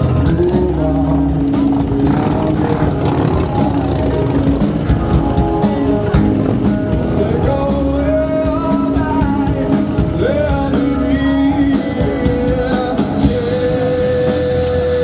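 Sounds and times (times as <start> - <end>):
live rock band: 0.0 - 15.0
person singing lead vocal: 0.0 - 15.0.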